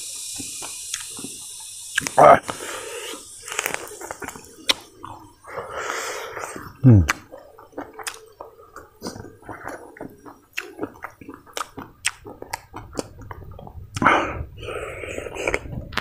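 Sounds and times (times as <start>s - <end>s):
wet mouth clicks: 0.2s - 5.3s, 6.4s - 14.3s
person chewing crunchy food: 0.2s - 16.0s.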